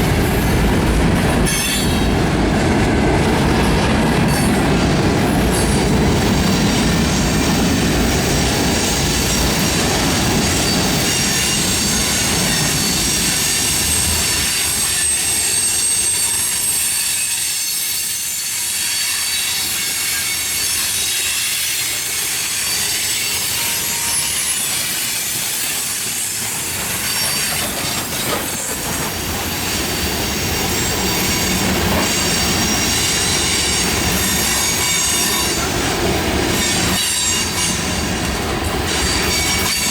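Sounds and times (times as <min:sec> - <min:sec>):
train rolling rumble: 0:00.0 - 0:17.4, 0:21.8 - 0:39.9
train wheels squealing on rails: 0:00.0 - 0:39.9.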